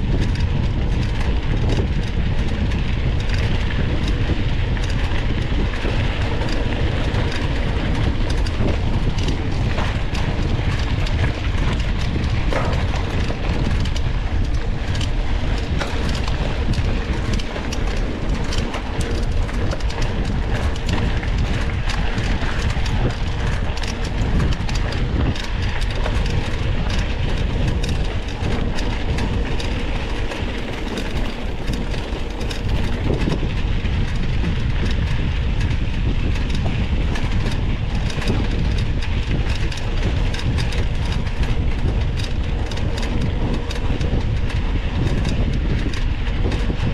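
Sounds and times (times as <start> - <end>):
bike rattling and knocking: 0.0 - 46.9
wind rumble on microphone: 0.0 - 46.9.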